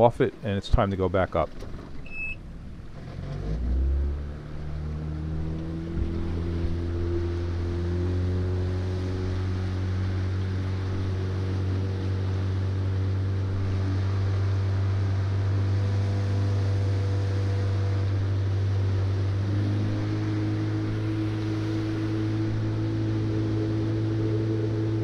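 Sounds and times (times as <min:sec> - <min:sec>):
boat engine droning: 0:00.0 - 0:25.0
wind: 0:00.0 - 0:25.0.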